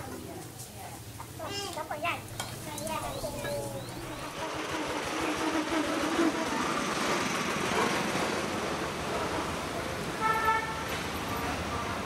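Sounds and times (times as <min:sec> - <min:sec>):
small motor vehicles passing: 0:02.0 - 0:12.0.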